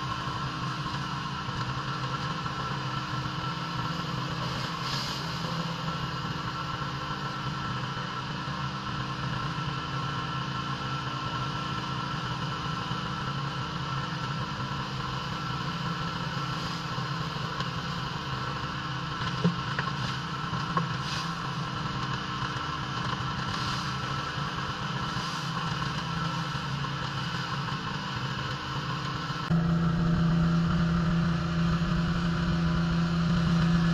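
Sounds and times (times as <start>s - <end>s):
pressure washer engine running: 0.0s - 33.9s.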